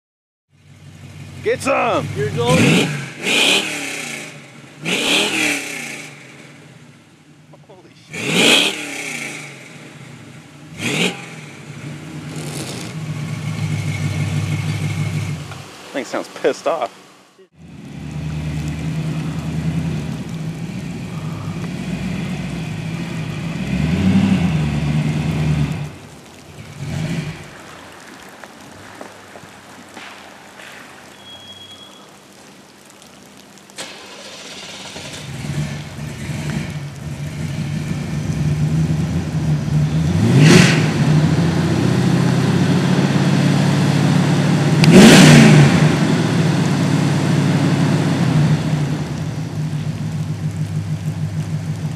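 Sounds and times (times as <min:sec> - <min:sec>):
pickup truck engine rumbling: 0:00.5 - 0:30.1, 0:33.7 - 0:51.9.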